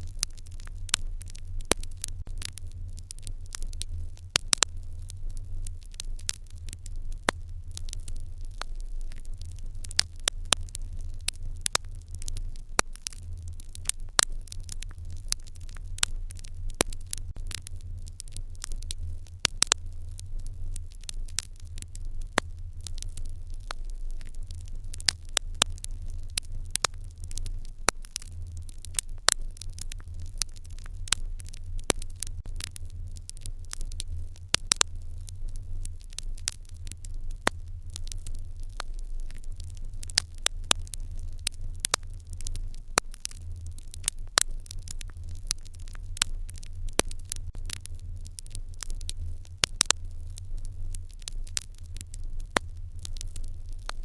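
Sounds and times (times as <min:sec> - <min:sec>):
low steady rumble: 0:00.0 - 0:54.0
wood fire crackling: 0:00.0 - 0:54.0.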